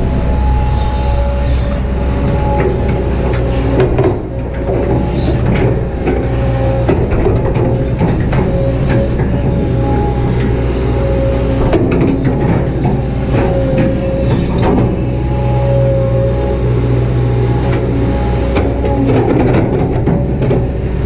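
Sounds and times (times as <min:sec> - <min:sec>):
diesel engine under load: 0:00.0 - 0:21.0
hydraulic whine: 0:00.0 - 0:21.0.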